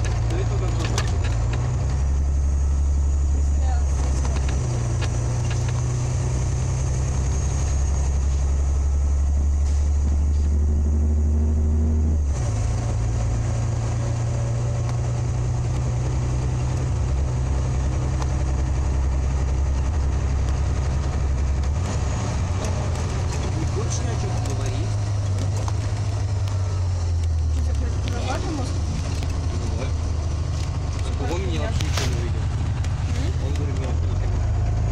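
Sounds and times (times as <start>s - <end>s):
bus engine drone: 0.0s - 34.9s.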